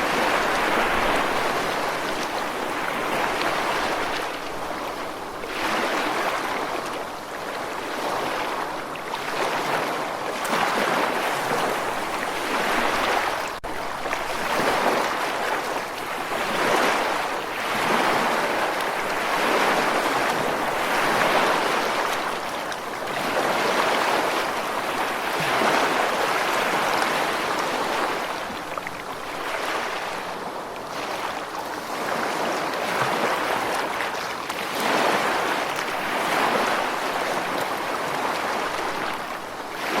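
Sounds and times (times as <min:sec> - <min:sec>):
ocean waves breaking: 0:00.0 - 0:40.0.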